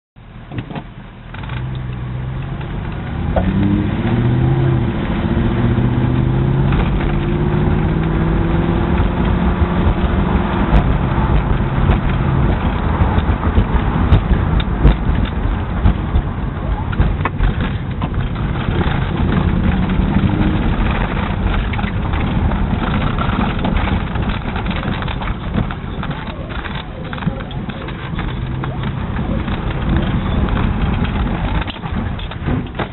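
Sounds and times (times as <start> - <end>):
car engine running: 0.2 - 32.9
engine ticks: 4.4 - 32.9.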